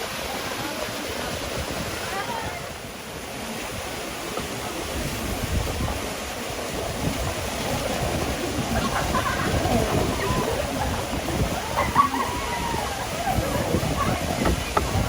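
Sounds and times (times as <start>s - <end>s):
waterfall and stream rushing: 0.0s - 15.0s
wind on microphone: 0.0s - 15.0s.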